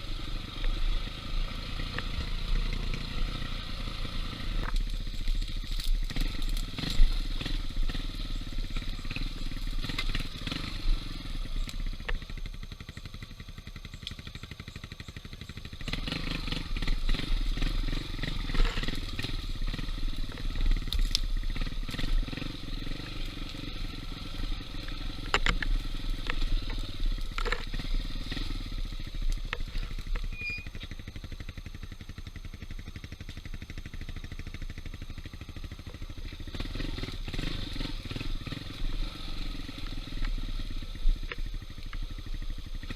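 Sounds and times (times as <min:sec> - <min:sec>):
bike rattling over rough ground: 0:00.0 - 0:42.9
motorcycle engine revving: 0:00.0 - 0:42.9.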